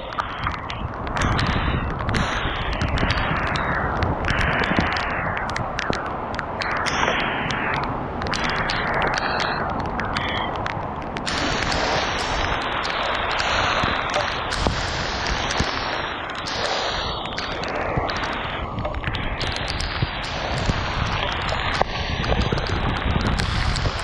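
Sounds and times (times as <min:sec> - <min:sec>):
heavy rain pouring: 0:00.0 - 0:24.0
wind gusting on microphone: 0:00.0 - 0:24.0.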